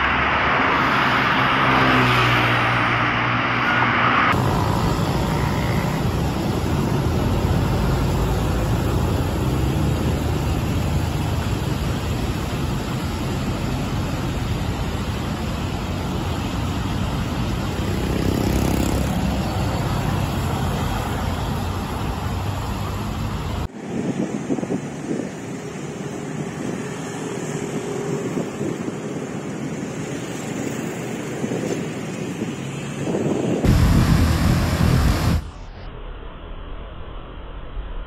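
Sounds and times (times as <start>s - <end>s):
traffic on wet road: 0.0s - 35.4s.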